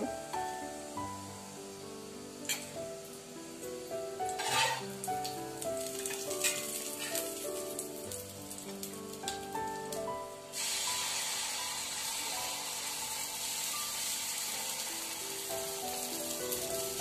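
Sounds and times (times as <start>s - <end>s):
oil sizzling in a pan: 0.0s - 17.0s
soft background music: 0.0s - 17.0s.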